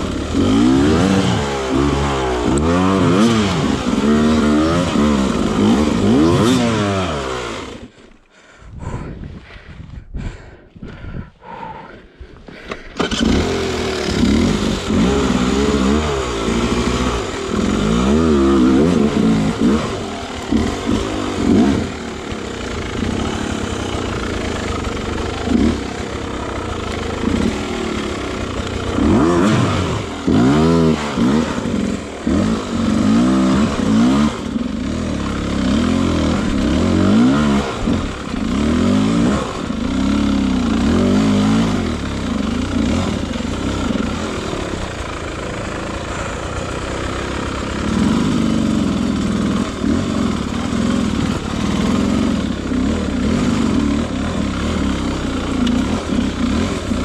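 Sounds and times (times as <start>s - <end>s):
motorcycle engine revving: 0.0s - 8.1s, 12.5s - 57.0s.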